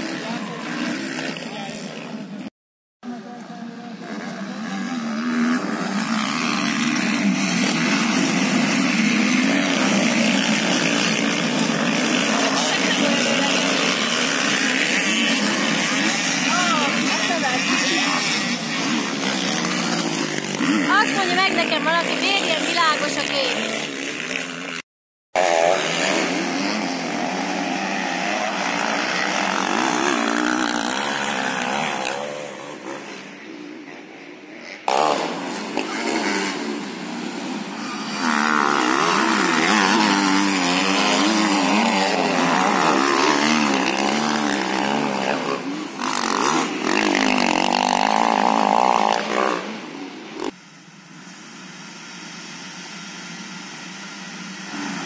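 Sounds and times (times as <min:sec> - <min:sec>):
motocross engines revving: 0:00.0 - 0:24.8, 0:25.4 - 0:55.0.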